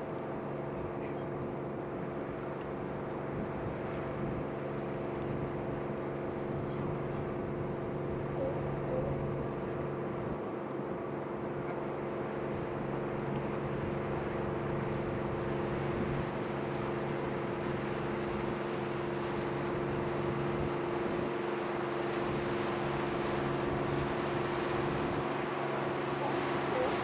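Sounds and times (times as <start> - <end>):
boat diesel engine droning: 0.0 - 27.0.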